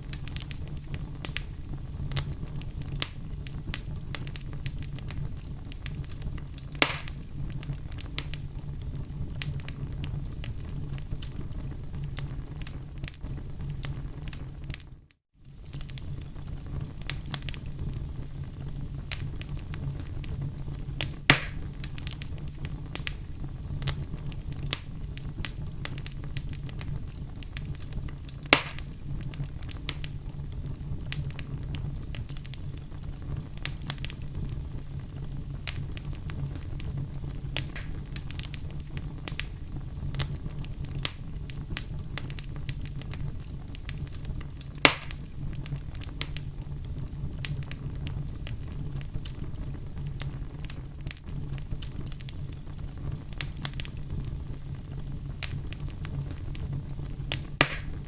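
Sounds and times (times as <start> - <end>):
loud fire pops: 0.0 - 58.0
wood fire crackling: 0.0 - 58.0.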